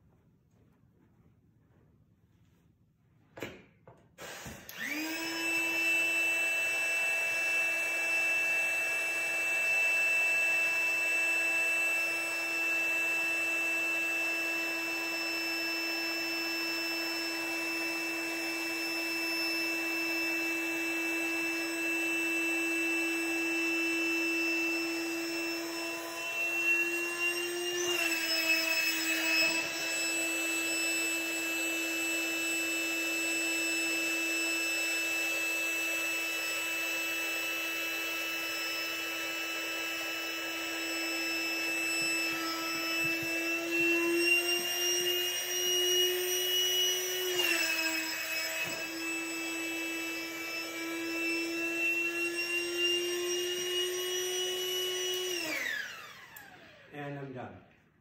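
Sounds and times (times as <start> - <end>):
electric air pump whining: 4.2 - 57.1.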